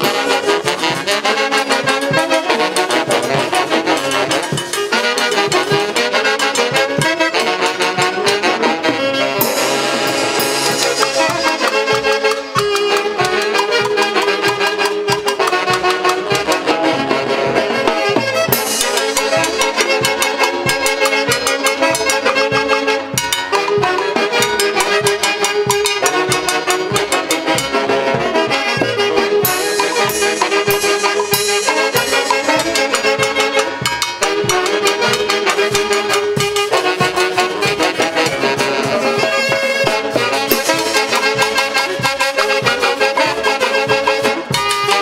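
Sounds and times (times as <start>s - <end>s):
drum and cymbal beat: 0.0s - 45.0s
saxophone section melody: 0.0s - 45.0s.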